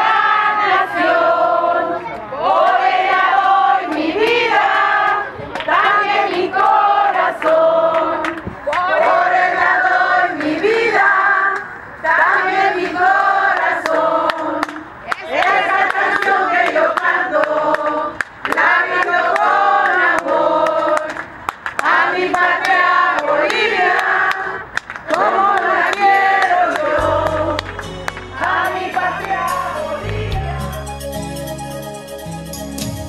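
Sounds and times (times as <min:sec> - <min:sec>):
crowd singing in unison: 0:00.0 - 0:30.9.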